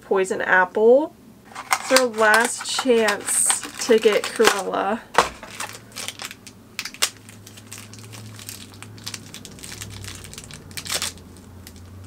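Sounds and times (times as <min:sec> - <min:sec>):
wrapper crinkling: 0:01.5 - 0:12.0.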